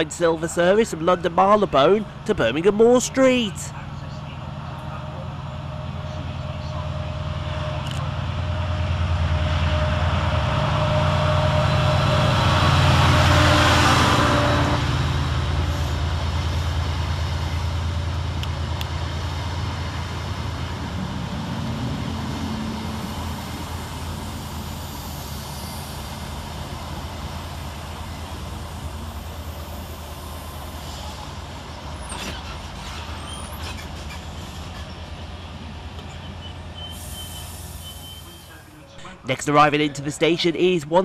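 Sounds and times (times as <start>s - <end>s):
diesel engine drone: 0.0s - 40.4s
wheels rushing on rail: 3.1s - 39.0s.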